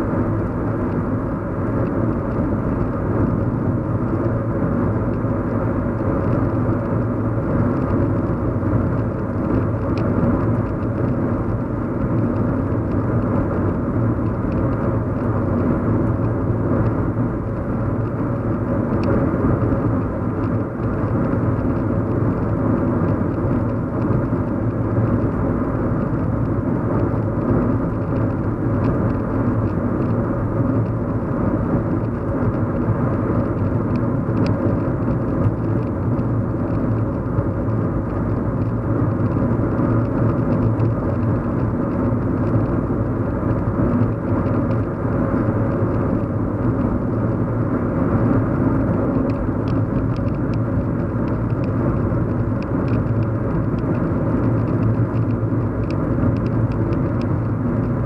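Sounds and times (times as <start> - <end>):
car cabin engine and road noise: 0.0 - 58.0.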